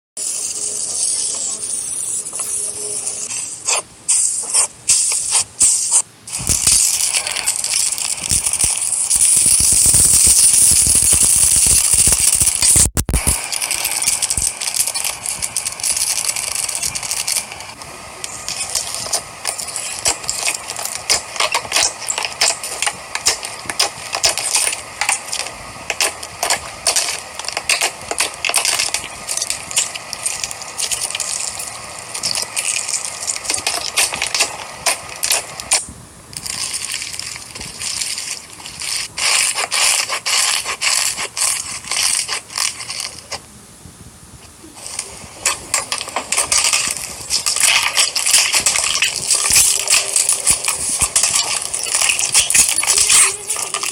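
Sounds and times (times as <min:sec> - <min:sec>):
slime crackling and squishing: 0:01.1 - 0:43.4, 0:44.6 - 0:53.9.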